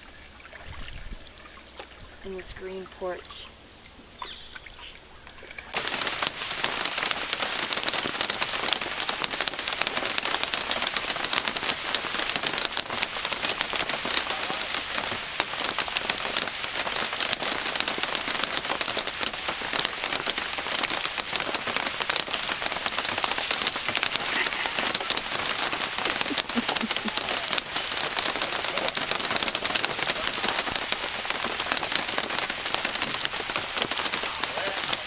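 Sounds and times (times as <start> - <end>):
heavy rain on tent canopy: 5.7 - 35.0.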